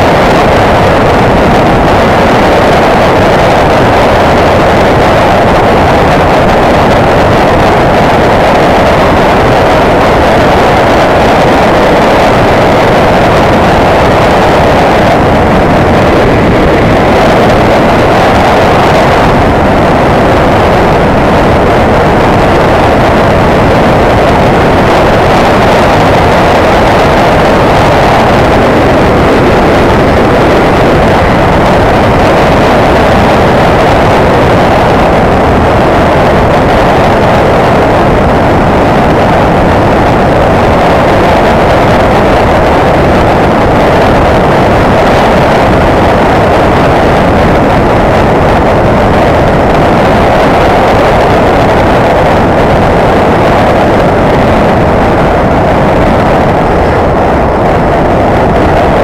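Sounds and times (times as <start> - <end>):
wind rushing: 0.0 - 59.0.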